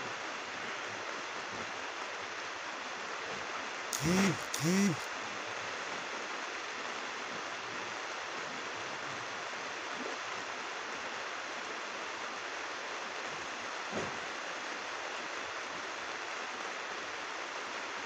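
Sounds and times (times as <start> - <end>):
rain on a plastic roof: 0.0 - 4.0, 5.1 - 18.0.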